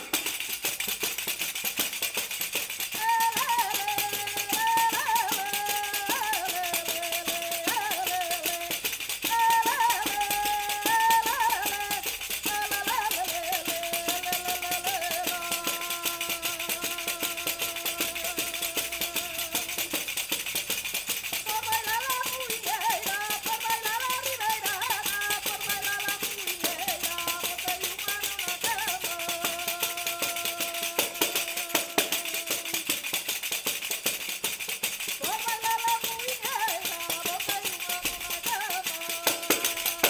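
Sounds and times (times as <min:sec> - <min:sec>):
frame drum with jingles: 0:00.0 - 0:40.0
woman singing: 0:02.7 - 0:20.4, 0:21.2 - 0:33.4, 0:35.1 - 0:40.0.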